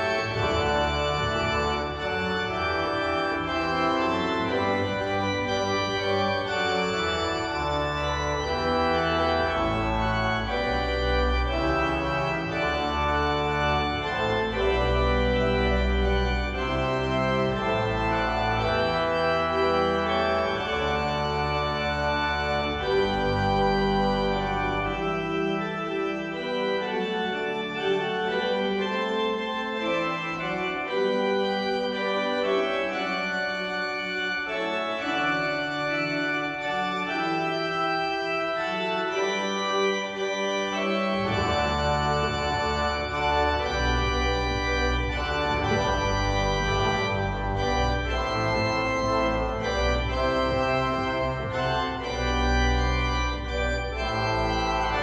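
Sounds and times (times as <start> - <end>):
deep organ pedal bass notes: 0.0 - 55.0
pipe organ chords: 0.0 - 55.0.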